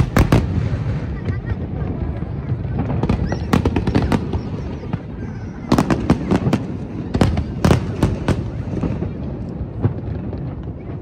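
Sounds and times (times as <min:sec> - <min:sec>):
fireworks bangs: 0:00.0 - 0:11.0
low rumble of explosions: 0:00.0 - 0:11.0.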